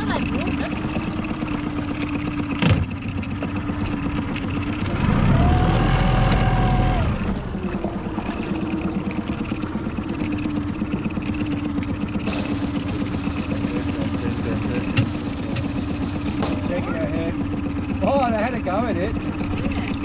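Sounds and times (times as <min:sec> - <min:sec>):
outboard motor idling: 0:00.0 - 0:20.0.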